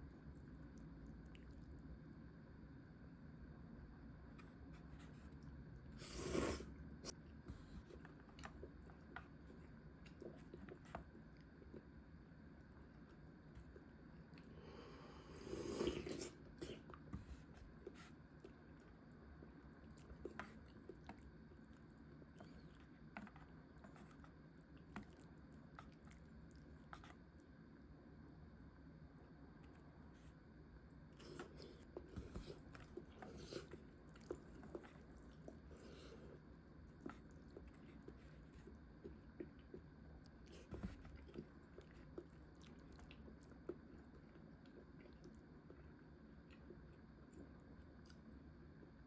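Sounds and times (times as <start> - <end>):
soft chewing and mouth sounds: 0.0 - 49.0.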